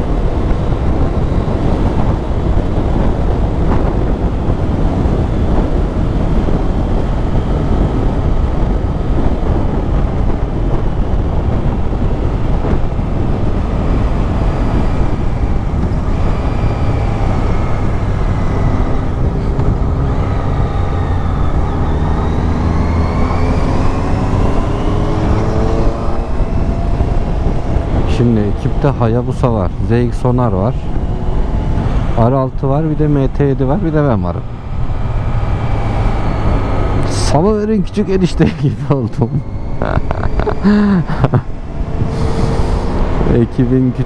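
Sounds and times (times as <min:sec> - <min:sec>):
motorcycle engine accelerating: 0:00.0 - 0:44.0
wind rush on microphone: 0:00.0 - 0:44.0.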